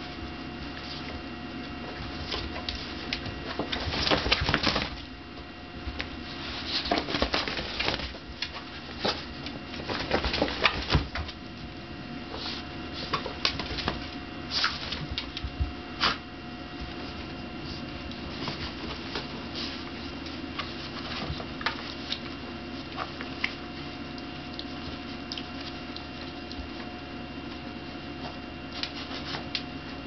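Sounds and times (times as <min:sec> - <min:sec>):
dogs scuffling: 0:00.0 - 0:11.5, 0:12.3 - 0:30.0
paws clicking on wooden floor: 0:00.6 - 0:11.4, 0:12.4 - 0:16.2, 0:16.8 - 0:30.0.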